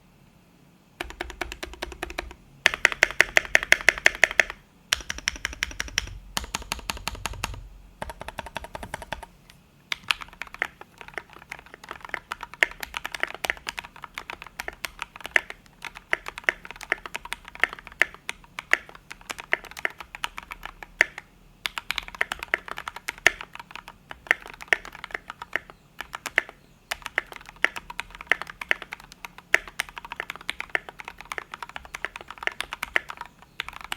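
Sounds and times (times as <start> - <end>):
mechanical keyboard typing: 1.0 - 9.3, 9.9 - 33.9.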